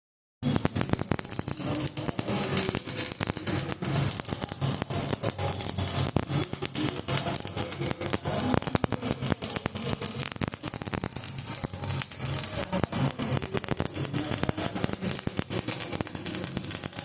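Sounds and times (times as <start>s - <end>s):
welding arc crackling: 0.4s - 17.0s
welding machine hum: 0.4s - 17.0s.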